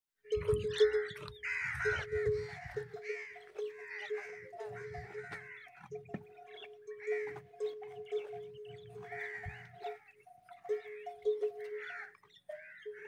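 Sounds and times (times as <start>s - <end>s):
crows cawing: 0.7s - 13.0s.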